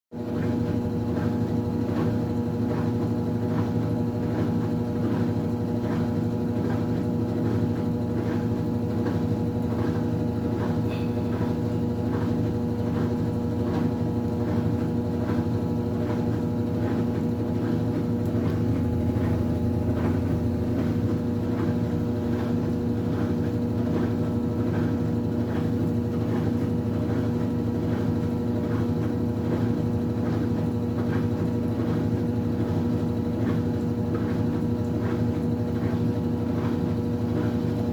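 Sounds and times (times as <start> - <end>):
washing machine spinning: 0.2 - 37.9.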